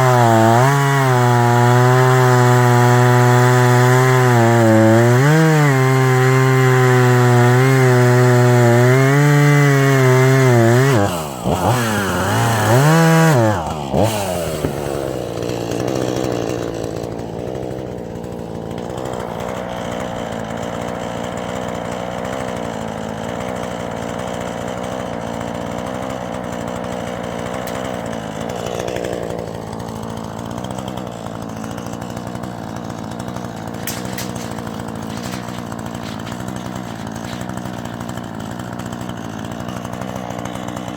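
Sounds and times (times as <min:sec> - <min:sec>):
chainsaw engine revving and idling: 0:00.0 - 0:40.9.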